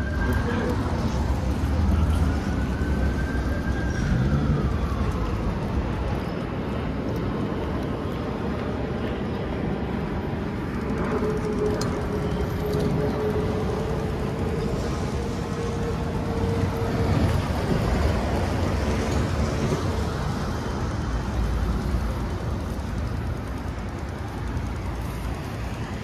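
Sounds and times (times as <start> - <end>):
traffic on a wet street: 0.0 - 26.0.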